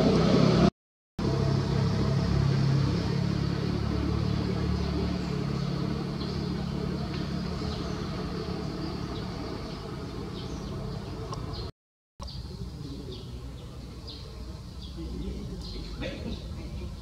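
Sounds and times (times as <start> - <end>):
motor vehicle engine hum: 0.0 - 17.0.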